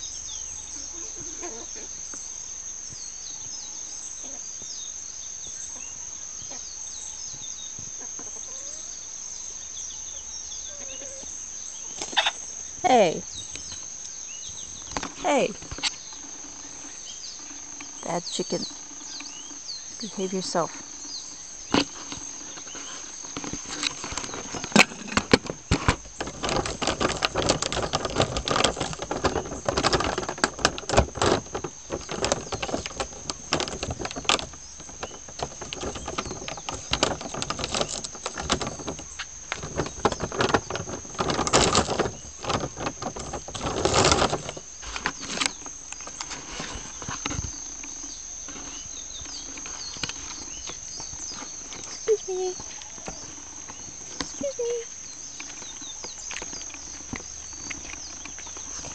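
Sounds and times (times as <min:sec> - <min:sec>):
rustling in dry leaves: 0:10.7 - 0:58.9.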